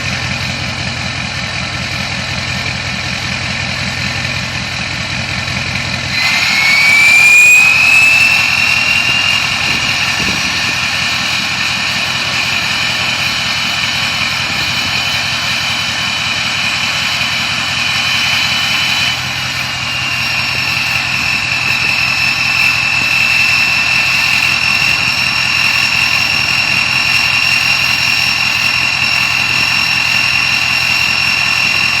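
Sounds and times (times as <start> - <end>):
diesel engine revving: 0.0 - 32.0
turbo whistling: 4.6 - 32.0.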